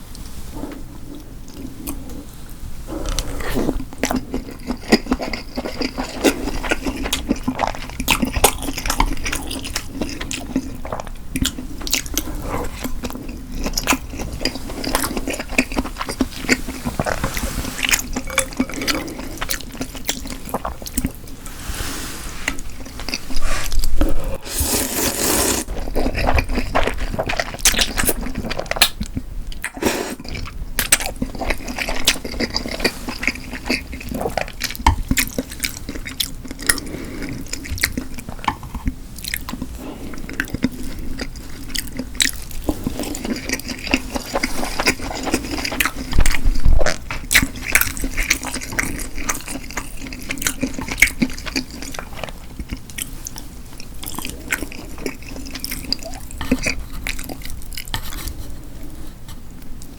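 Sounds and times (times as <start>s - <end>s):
person chewing food: 0.7s - 21.6s, 22.4s - 59.9s.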